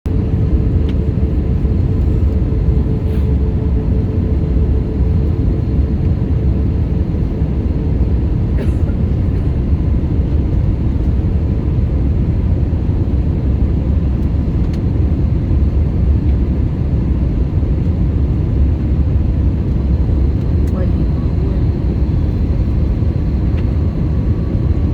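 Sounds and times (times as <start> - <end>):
engine and airflow rumble: 0.0 - 24.9.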